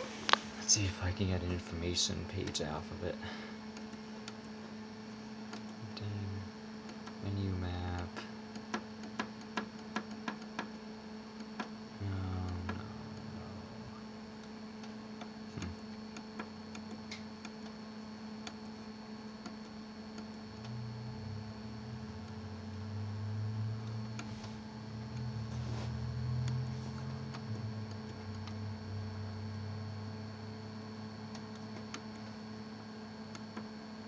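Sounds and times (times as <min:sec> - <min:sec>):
printer fan humming: 0:00.0 - 0:34.0.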